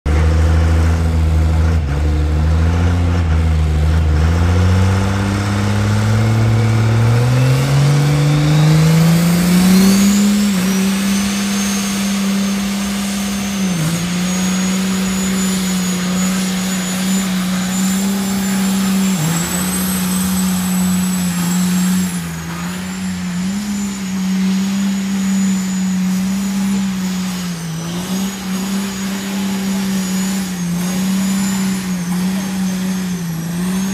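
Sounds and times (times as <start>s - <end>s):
diesel pickup engine revving: 0.1s - 33.9s
high whine: 3.0s - 33.9s.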